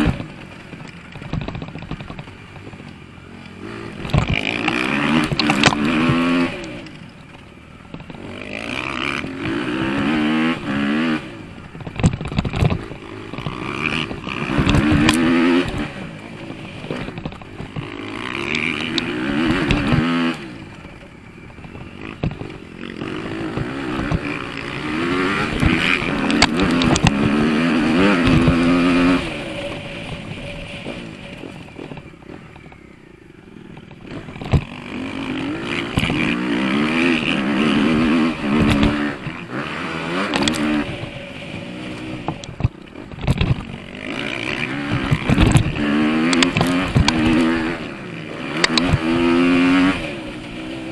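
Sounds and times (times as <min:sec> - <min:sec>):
bike knocks and rattles: 0:00.0 - 0:32.9, 0:33.5 - 0:50.9
dirt bike engine revving: 0:00.0 - 0:50.9.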